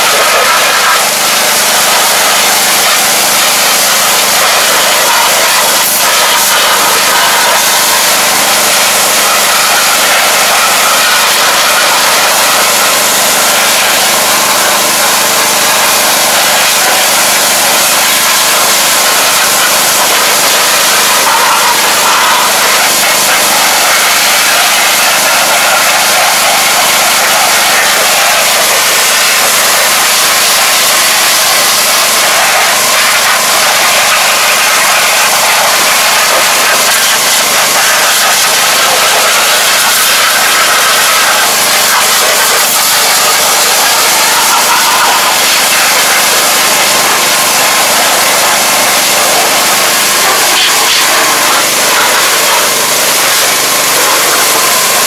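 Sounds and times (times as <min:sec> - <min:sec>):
high-pressure water jet hiss: 0:00.0 - 0:55.0
pressure washer motor hum: 0:00.0 - 0:55.0.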